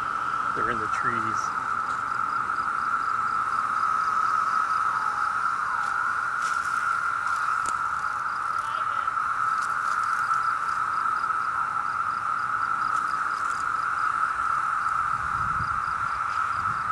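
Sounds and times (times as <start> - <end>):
cicadas droning: 0.0 - 16.9.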